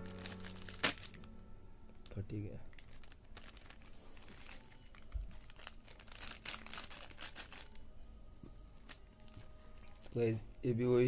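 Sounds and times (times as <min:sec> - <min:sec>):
plastic bag crinkling: 0:00.0 - 0:01.3, 0:01.9 - 0:07.9, 0:08.8 - 0:11.0.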